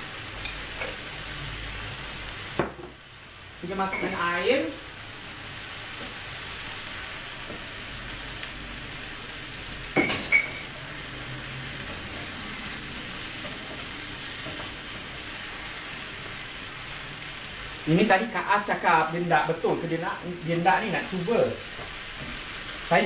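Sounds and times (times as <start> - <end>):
vegetables sizzling in a hot pan: 0.0 - 23.0.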